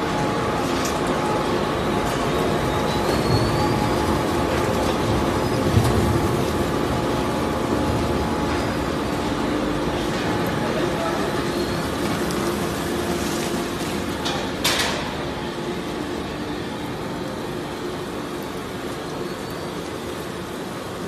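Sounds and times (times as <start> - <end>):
industrial machine drone: 0.0 - 21.0.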